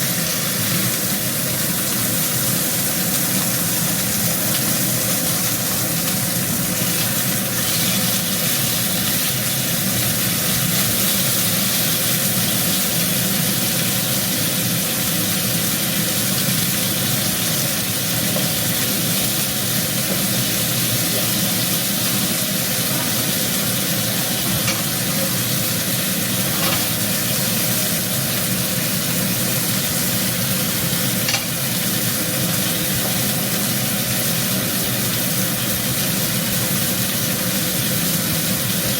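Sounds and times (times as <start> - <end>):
meat sizzling in hot oil: 0.0 - 38.9.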